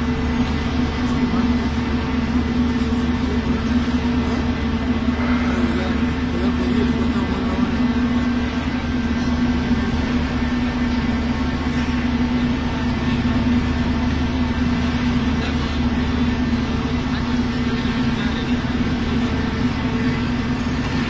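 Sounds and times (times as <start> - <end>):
hydraulic machinery humming: 0.0 - 21.0.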